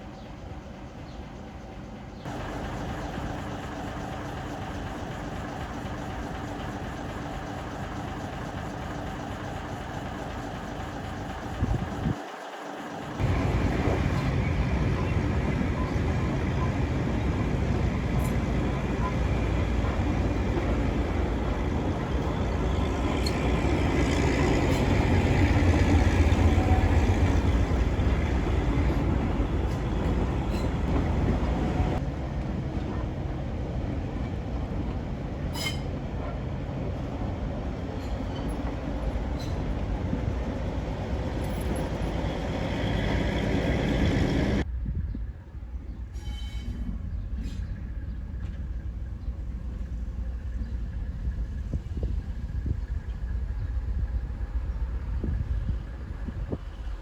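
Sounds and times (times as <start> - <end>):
train wheels rumbling on rails: 0.0 - 44.8, 46.0 - 57.0.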